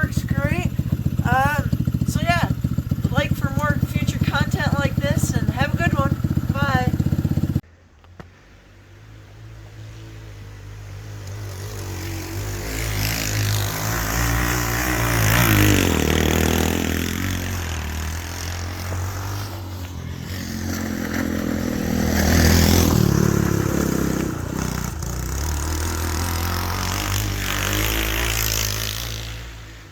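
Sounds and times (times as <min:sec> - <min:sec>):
go-kart engine revving: 0:00.0 - 0:07.6, 0:10.7 - 0:29.9.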